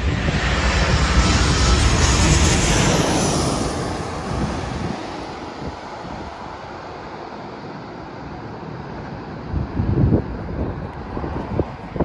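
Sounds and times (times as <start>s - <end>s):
wind buffeting microphone: 0.0s - 7.0s, 7.8s - 12.0s
jet airliner engine noise: 0.0s - 12.0s.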